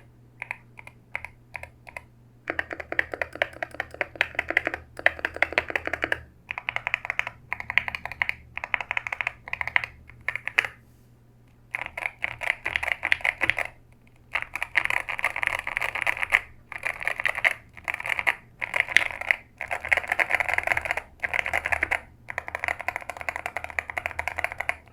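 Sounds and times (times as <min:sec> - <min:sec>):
fast keyboard typing: 0:00.0 - 0:10.8, 0:11.7 - 0:24.9.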